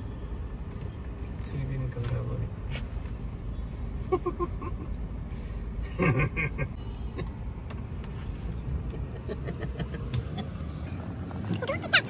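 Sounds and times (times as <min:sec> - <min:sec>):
car cabin road and engine rumble: 0:00.0 - 0:12.0.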